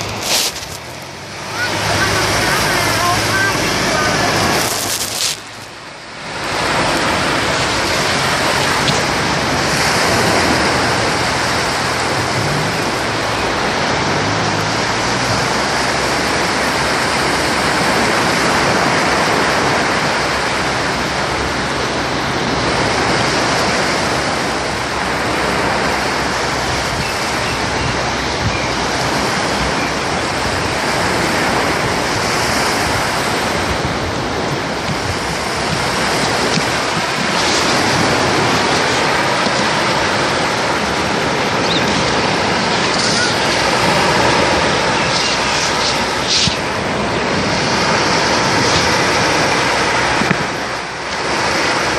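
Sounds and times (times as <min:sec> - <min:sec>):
waves breaking on a beach: 0:00.0 - 0:51.9.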